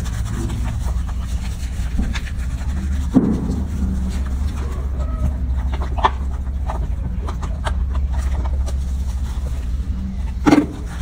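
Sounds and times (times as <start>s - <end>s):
hands scrubbing wet fur: 0.0s - 11.0s
low hum: 0.0s - 11.0s.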